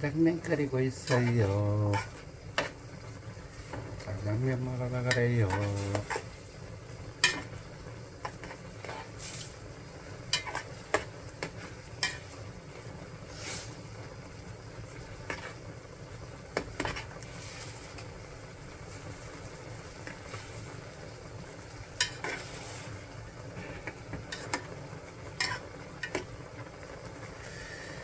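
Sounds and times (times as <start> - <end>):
cooking hiss: 0.0 - 28.0.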